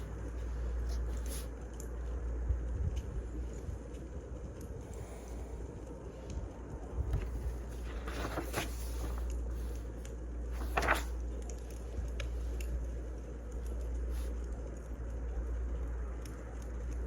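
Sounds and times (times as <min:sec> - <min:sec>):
steady low rumble: 0:00.0 - 0:17.0
wood fire crackling: 0:00.0 - 0:17.0.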